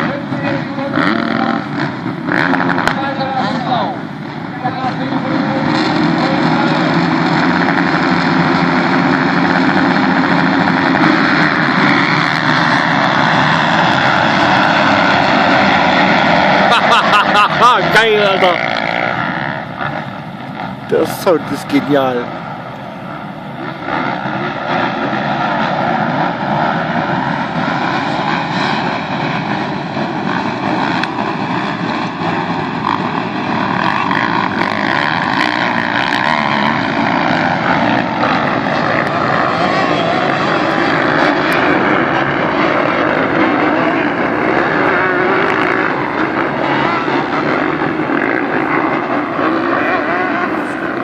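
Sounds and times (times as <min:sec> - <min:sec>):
motocross engines revving: 0:00.0 - 0:51.0.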